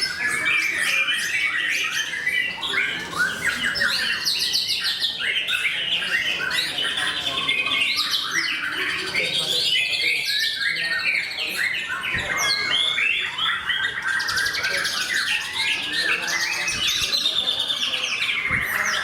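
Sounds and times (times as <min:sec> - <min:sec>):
birds singing: 0:00.0 - 0:19.0.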